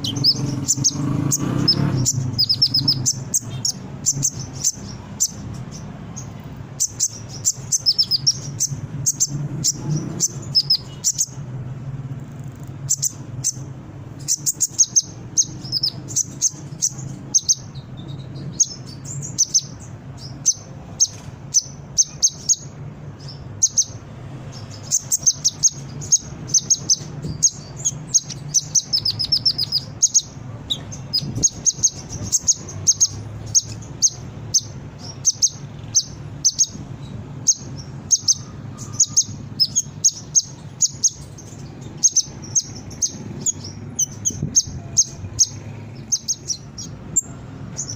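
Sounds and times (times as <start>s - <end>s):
sunbird chirps and trills: 0.0s - 47.9s.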